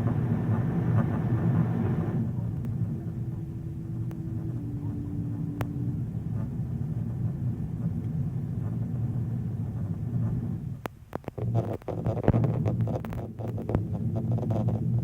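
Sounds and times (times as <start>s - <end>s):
airplane low rumble: 0.0s - 15.0s
faint steady hum: 0.0s - 15.0s.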